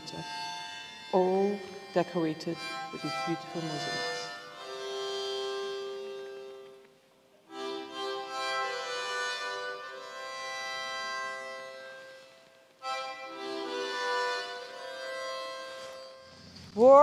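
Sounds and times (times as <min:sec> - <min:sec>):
slow melody of long notes: 0:00.0 - 0:16.5.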